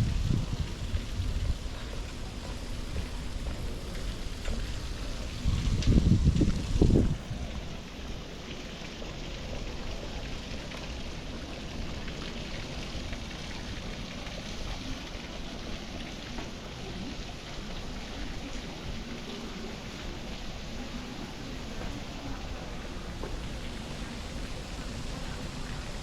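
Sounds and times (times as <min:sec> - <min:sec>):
city street hiss: 0:00.0 - 0:26.0.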